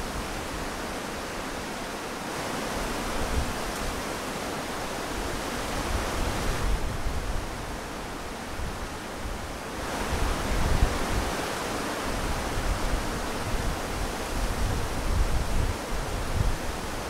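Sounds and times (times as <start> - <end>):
strong wind rustling tree leaves: 0.0 - 17.0.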